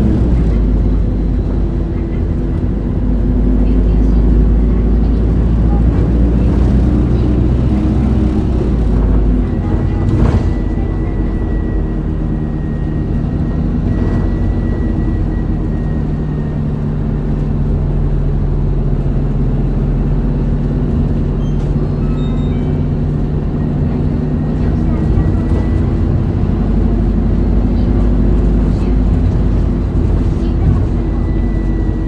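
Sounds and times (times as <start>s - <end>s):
bus engine droning: 0.0s - 32.0s.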